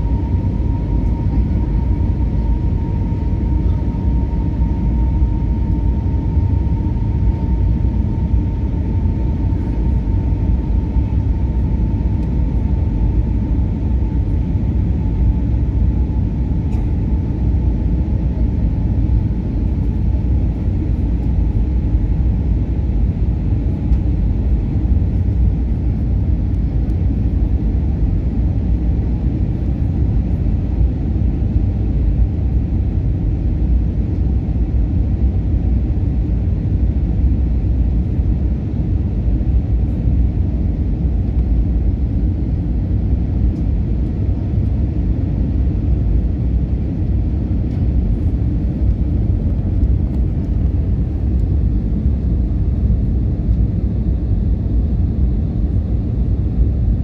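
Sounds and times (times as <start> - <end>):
aircraft engines rumbling: 0.0 - 57.0.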